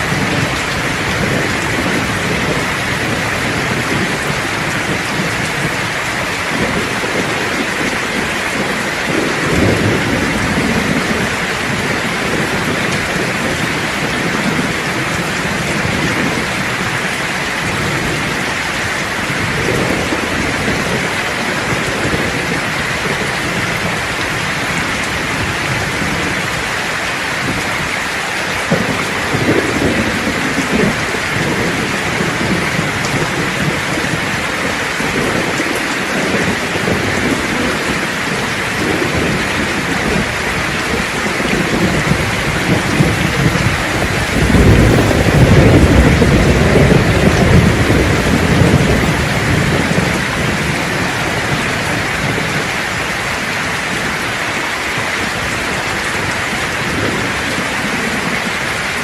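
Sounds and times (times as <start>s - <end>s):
rain pouring: 0.0s - 59.0s
thunder rumbling: 0.0s - 59.0s.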